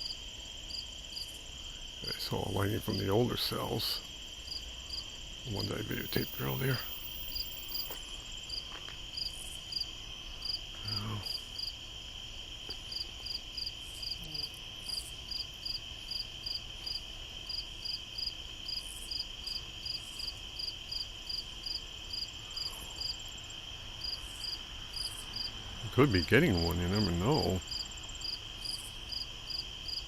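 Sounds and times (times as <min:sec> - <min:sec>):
crickets trilling: 0:00.0 - 0:30.0
insect chirping rhythmically: 0:00.0 - 0:30.0.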